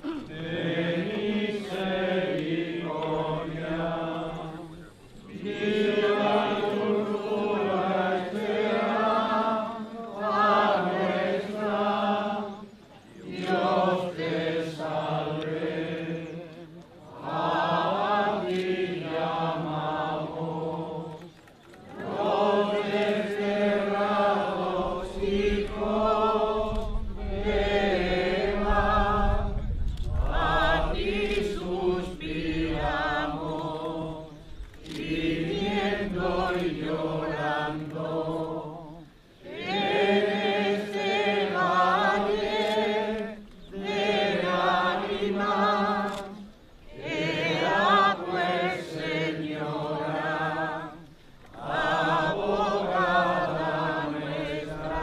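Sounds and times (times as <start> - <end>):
unaccompanied singing voices: 0.0 - 55.0.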